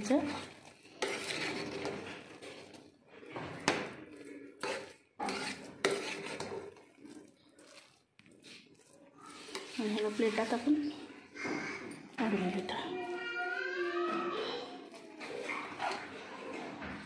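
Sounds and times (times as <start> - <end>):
metal spoon scraping in a pot: 0.0 - 13.0, 14.9 - 16.7.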